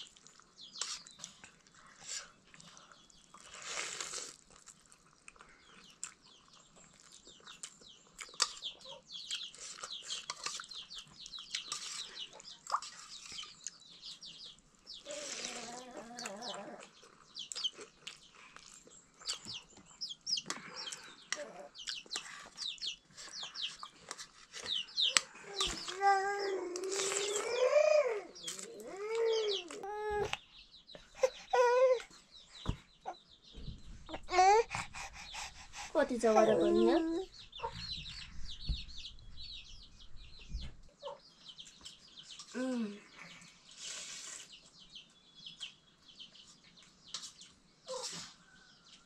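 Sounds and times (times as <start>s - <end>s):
chicks peeping: 5.4s - 49.0s.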